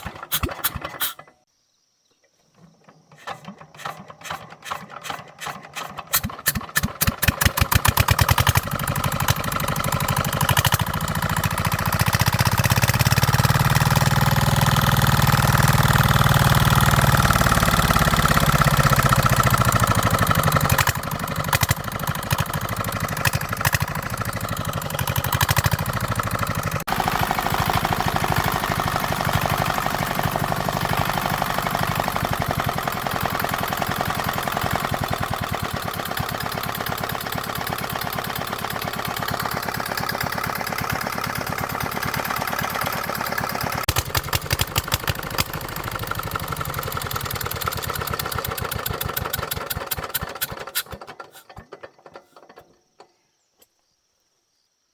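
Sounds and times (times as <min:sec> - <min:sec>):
small engine running: 0:03.1 - 0:52.6.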